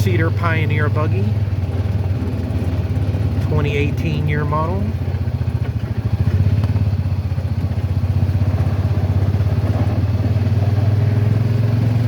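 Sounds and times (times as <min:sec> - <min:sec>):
utility vehicle engine droning: 0:00.0 - 0:12.0.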